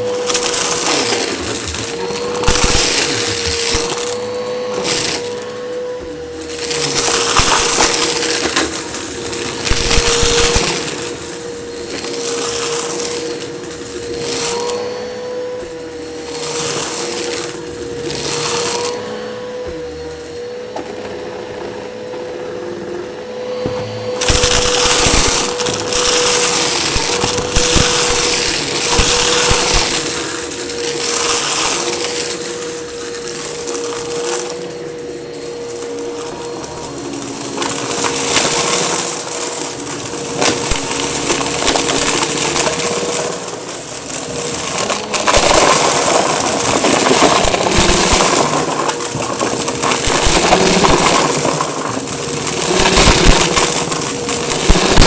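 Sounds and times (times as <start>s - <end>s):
debris crackling in vacuum: 0.0s - 55.0s
vacuum cleaner motor whine: 0.0s - 55.0s.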